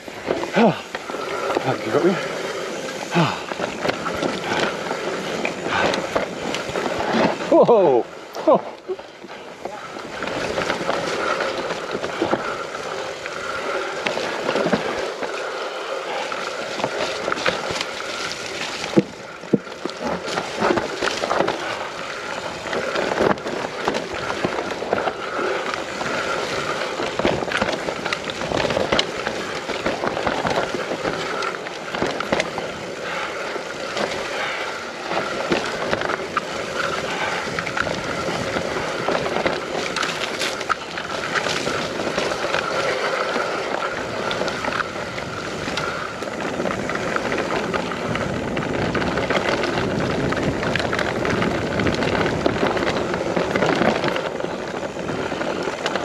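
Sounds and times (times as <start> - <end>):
bike rattling over bumps: 0.0 - 56.0
bike tyres rolling on trail: 0.0 - 56.0.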